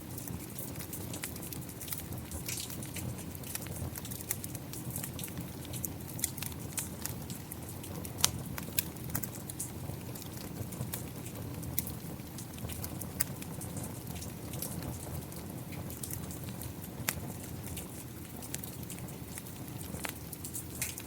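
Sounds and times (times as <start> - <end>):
rain falling: 0.0 - 21.0
wood fire crackling: 0.0 - 21.0.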